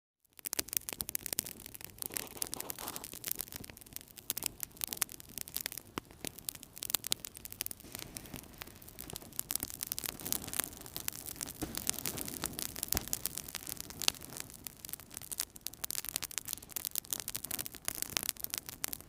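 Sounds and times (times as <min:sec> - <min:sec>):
sharp pops and snaps: 0:00.2 - 0:19.0
wood fire crackling: 0:00.2 - 0:19.0
low rush of flame: 0:00.8 - 0:19.0.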